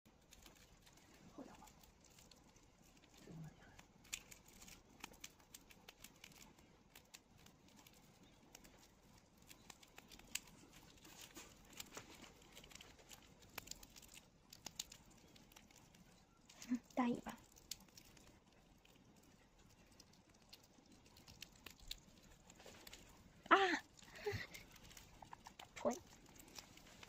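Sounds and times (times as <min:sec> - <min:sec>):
animal chewing with crisp crackles: 0:00.1 - 0:27.0.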